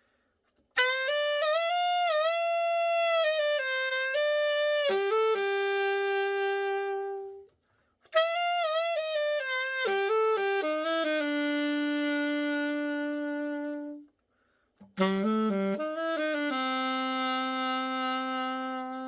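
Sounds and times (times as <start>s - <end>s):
alto saxophone playing solo: 0.8s - 7.5s, 8.1s - 14.2s, 14.8s - 19.0s.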